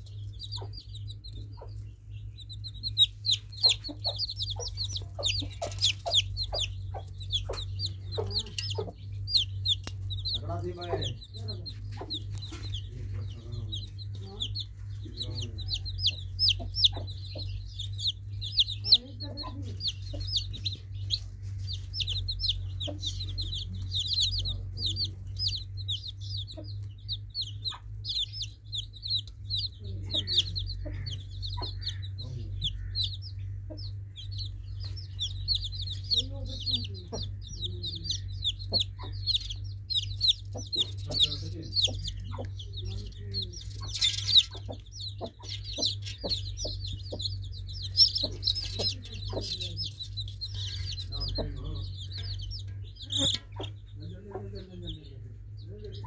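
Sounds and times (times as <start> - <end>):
chicks peeping: 0.0 - 56.0
low clucking calls: 0.0 - 56.0
steady low hum: 0.0 - 56.0.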